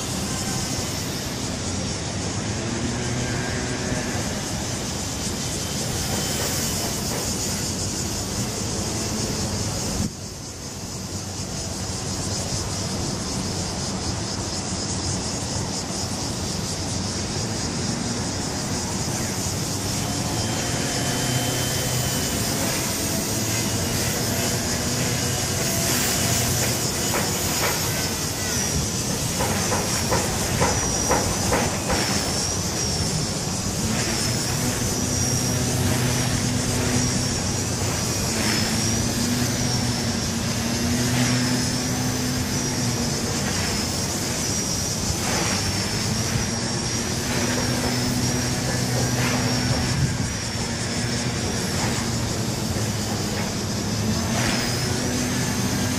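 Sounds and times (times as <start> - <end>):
toy helicopter rotor whine: 0.0 - 55.9.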